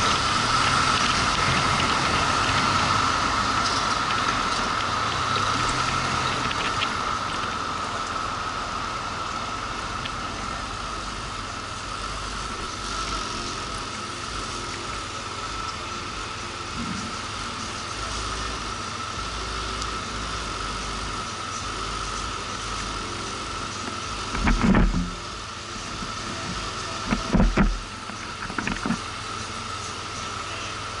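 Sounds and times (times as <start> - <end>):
constant whine: 0.0 - 31.0
motorcycle engine and road drone: 0.0 - 31.0.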